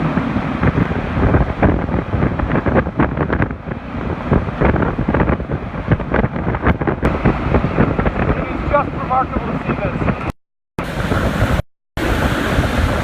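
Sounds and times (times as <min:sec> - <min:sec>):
hurricane wind gusting: 0:00.0 - 0:13.0.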